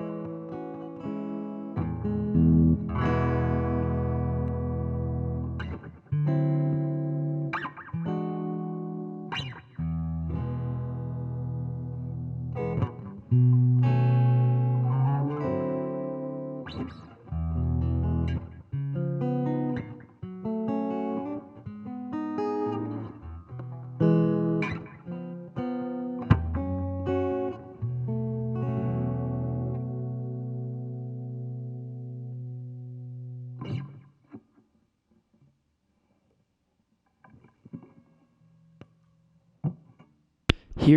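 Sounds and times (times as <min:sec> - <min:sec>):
electric guitar notes and chords: 0:00.0 - 0:34.4.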